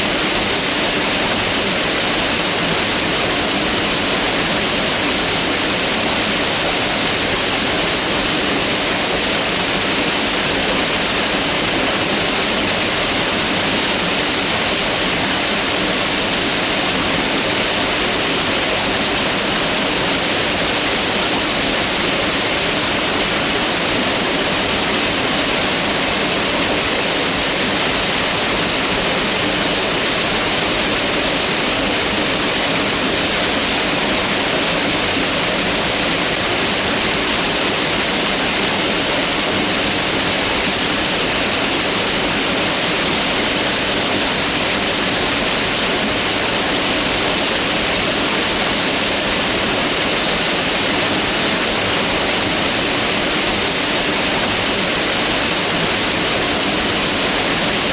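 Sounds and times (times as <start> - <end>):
river rushing over rocks: 0.0 - 57.9.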